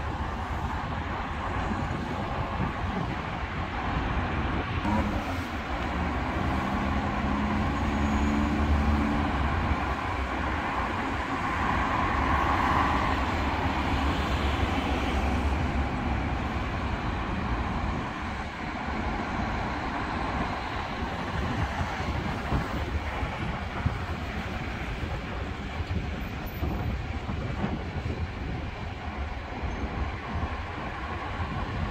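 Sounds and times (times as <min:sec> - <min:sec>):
road traffic engine and tyre noise: 0:00.0 - 0:31.9.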